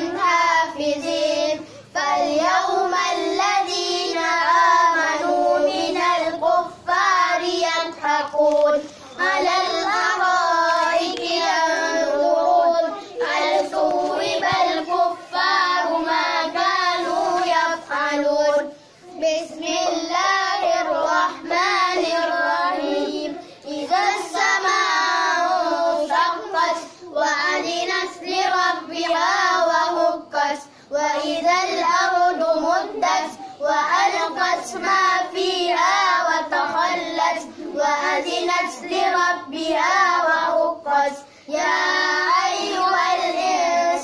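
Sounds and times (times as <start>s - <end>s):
child chanting melodically: 0.0s - 44.0s.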